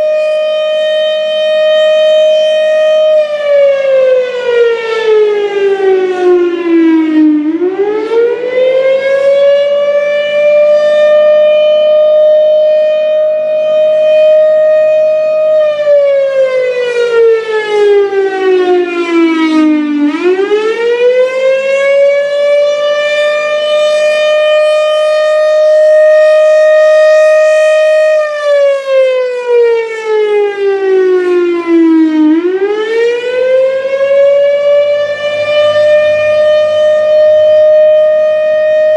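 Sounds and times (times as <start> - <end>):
siren rising and falling wail: 0.0 - 38.9.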